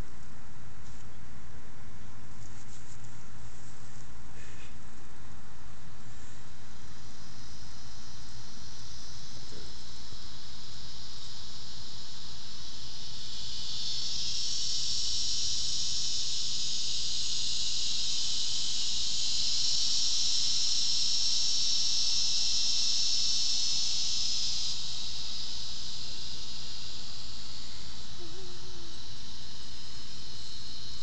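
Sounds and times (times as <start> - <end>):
insect chorus droning: 0.0 - 31.0.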